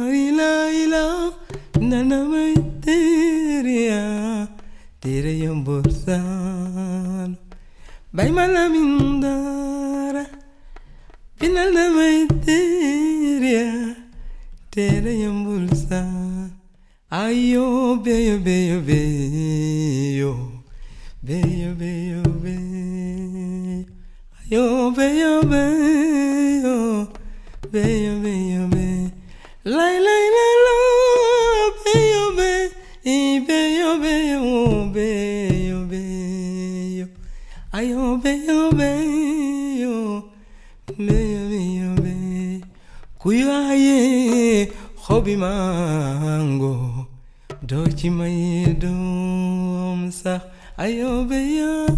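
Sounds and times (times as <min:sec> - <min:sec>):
person singing wordless melody: 0:00.0 - 0:51.9.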